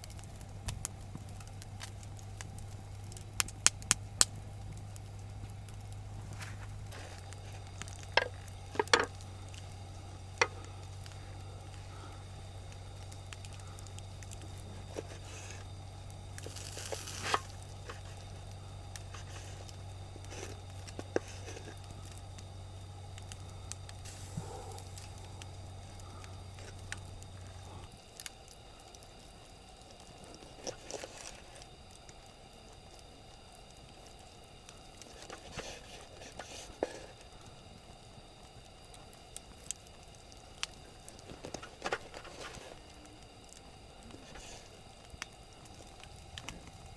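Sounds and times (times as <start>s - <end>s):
campfire crackling: 0.0s - 46.9s
low steady hum: 0.0s - 46.9s.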